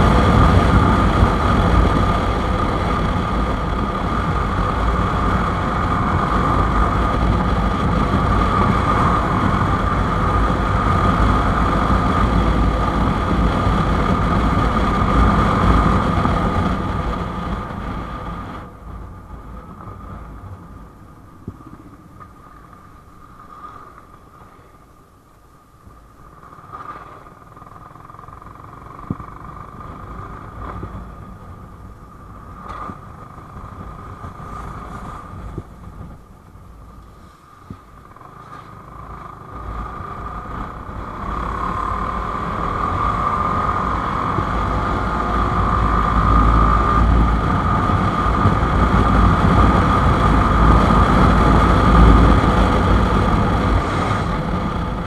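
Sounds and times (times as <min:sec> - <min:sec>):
motorcycle engine running: 0:00.0 - 0:23.2, 0:25.9 - 0:55.0
rushing wind noise: 0:00.0 - 0:55.0.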